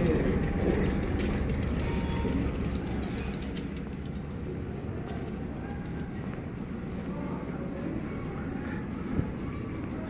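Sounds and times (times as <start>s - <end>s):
train rumbling at platform: 0.0s - 10.0s.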